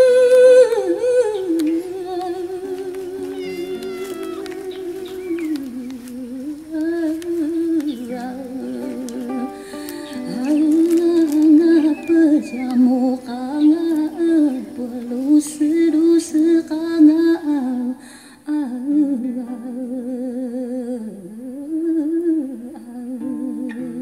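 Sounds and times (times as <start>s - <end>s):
person humming melody: 0.0s - 24.0s.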